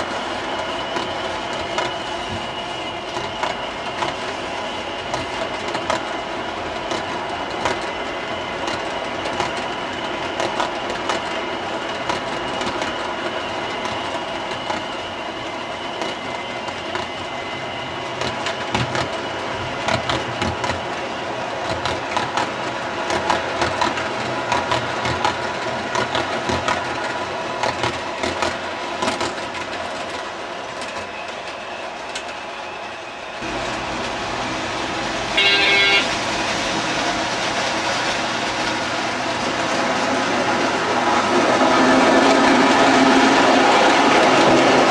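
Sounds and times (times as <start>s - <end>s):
model train cars rolling on track: 0.0s - 44.9s.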